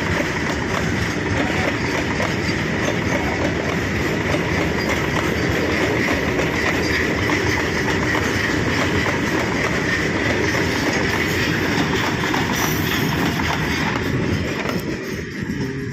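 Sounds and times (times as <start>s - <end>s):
freight train wheels clattering: 0.0s - 15.9s
high ringing of wheels on rails: 0.0s - 15.9s.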